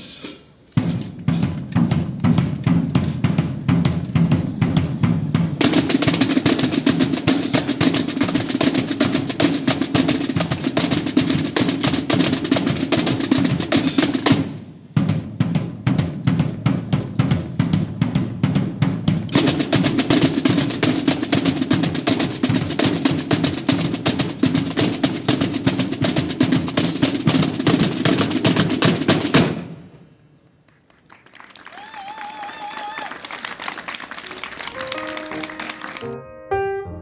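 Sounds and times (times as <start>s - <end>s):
snare drums playing rolls: 0.0s - 29.9s, 30.8s - 36.1s.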